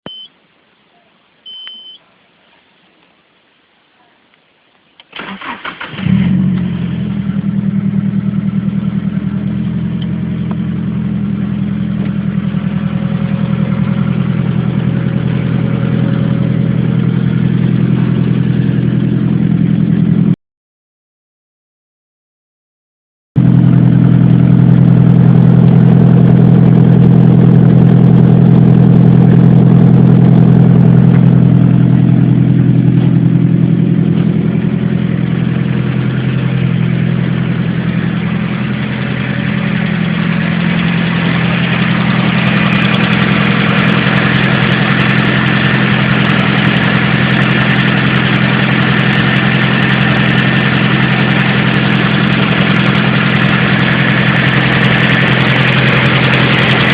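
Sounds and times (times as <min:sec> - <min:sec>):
vehicle engine idling: 0:04.9 - 0:20.3, 0:23.4 - 0:56.9.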